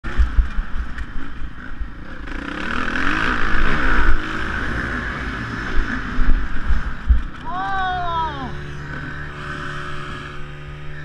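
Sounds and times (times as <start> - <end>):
motocross bike engine revving: 0.1 - 11.0.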